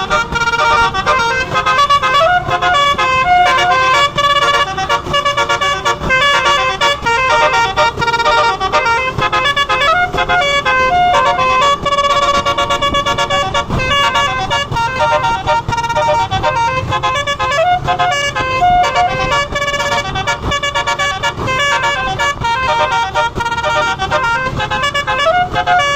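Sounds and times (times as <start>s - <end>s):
bus horn playing a melody: 0.0s - 25.9s.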